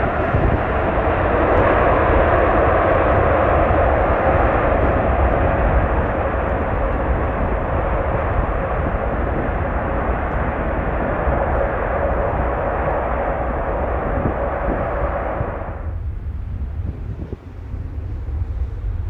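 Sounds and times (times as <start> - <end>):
jet airliner engines rushing: 0.0 - 19.0.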